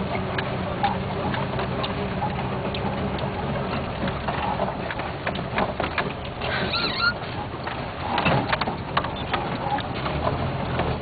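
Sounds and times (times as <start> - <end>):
clicks and rattles: 0.0 - 11.0
vehicle engine running: 0.0 - 11.0.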